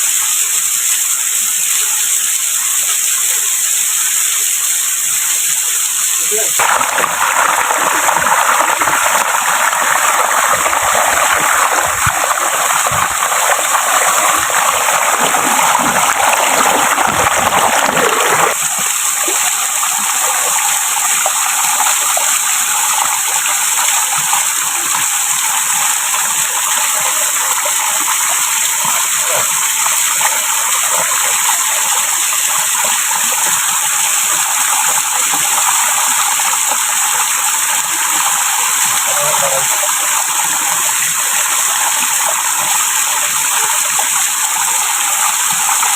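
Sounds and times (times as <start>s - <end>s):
waterfall rushing and splashing: 0.0s - 45.9s.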